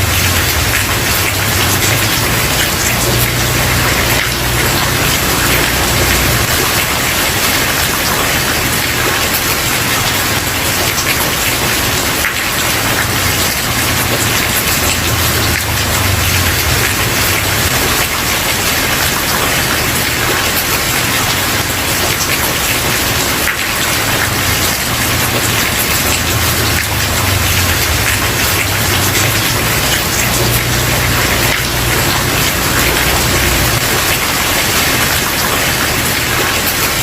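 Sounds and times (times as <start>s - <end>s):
rain on wooden porch: 0.0s - 37.0s.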